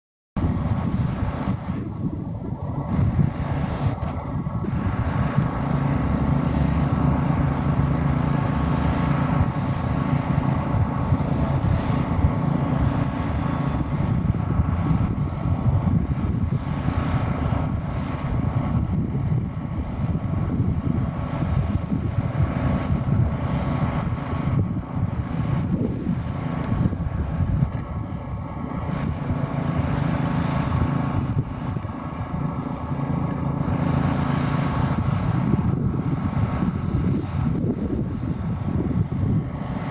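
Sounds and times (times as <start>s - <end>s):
steady mechanical drone: 0.4s - 39.9s
wind buffeting microphone: 0.4s - 39.9s.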